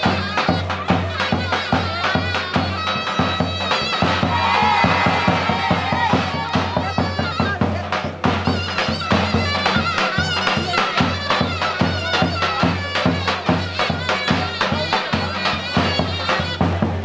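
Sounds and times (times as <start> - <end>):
steady drum beat: 0.0 - 17.0
wind instrument melody: 0.0 - 17.0.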